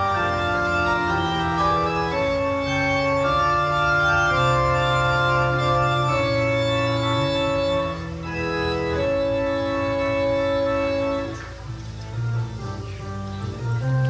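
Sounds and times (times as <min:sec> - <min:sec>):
organ chords: 0:00.0 - 0:14.0.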